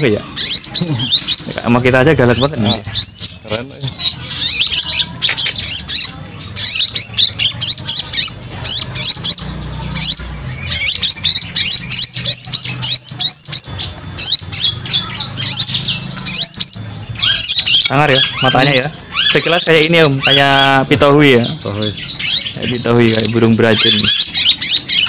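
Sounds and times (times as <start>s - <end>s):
bird sharp chirps: 0.0s - 25.0s.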